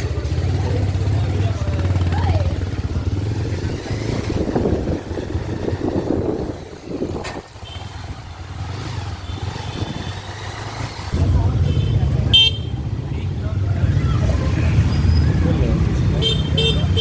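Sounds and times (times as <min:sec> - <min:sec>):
motorcycle engine hum: 0:00.0 - 0:17.0
road and wind noise: 0:00.0 - 0:17.0.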